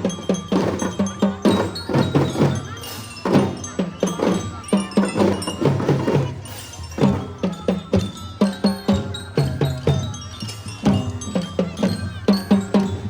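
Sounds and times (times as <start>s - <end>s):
bell-like mallet melody: 0.0s - 13.0s
drum strokes: 0.0s - 13.0s.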